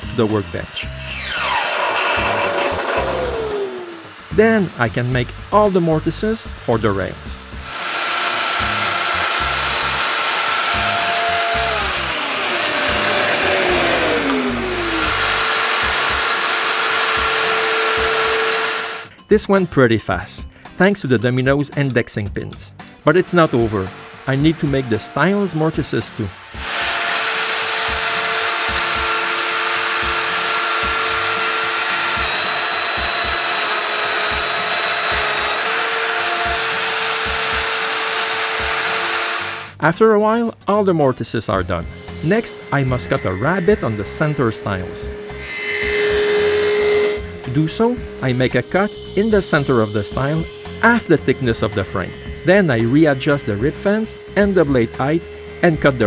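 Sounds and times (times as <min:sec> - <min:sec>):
power tool motor whining: 0:00.9 - 0:04.3, 0:07.5 - 0:19.1, 0:23.0 - 0:39.8, 0:41.8 - 0:56.0.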